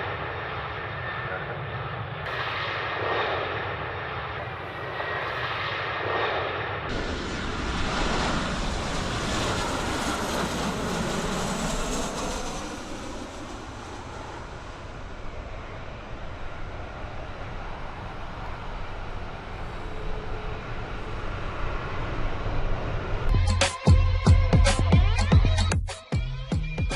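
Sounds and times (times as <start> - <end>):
airliner engines roaring: 0.0 - 24.5.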